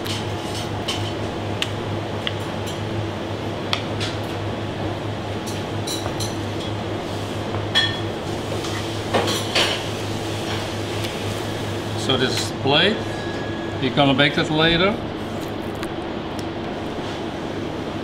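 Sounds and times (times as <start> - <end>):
kitchen ventilation hum: 0.0 - 18.0.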